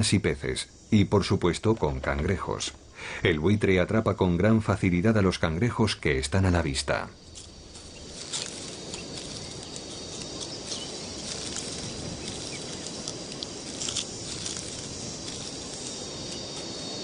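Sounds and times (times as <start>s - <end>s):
faint high insect whine: 0.0s - 17.0s
steady hiss: 0.0s - 17.0s.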